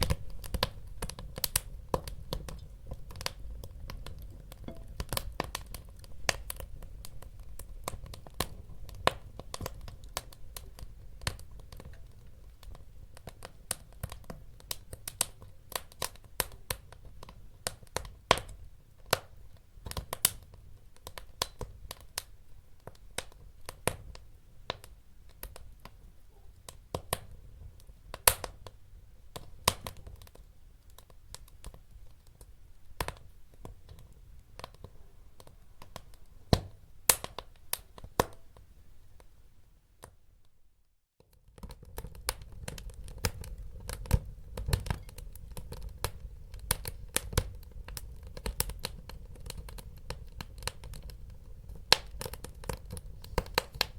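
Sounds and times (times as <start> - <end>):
wood fire crackling: 0.0 - 39.4, 41.2 - 53.9.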